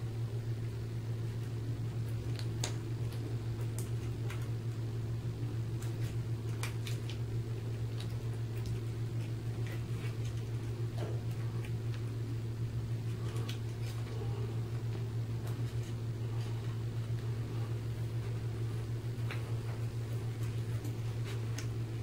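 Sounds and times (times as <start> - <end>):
low equipment hum: 0.0 - 22.0.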